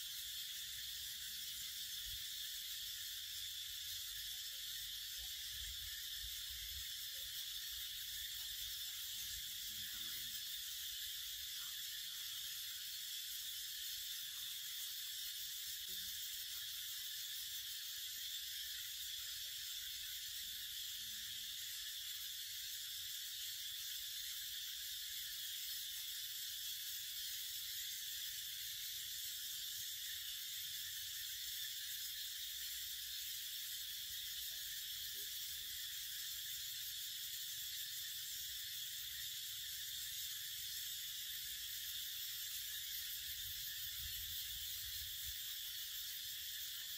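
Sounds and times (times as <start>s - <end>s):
steady high-pitched hiss: 0.0s - 46.9s.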